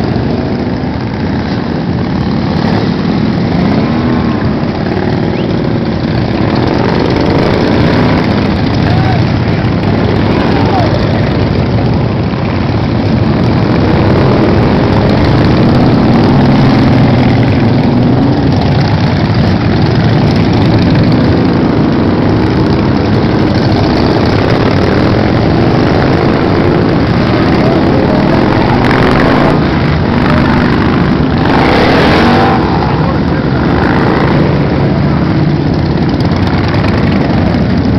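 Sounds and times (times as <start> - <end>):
group of motorcycles passing: 0.0 - 37.9.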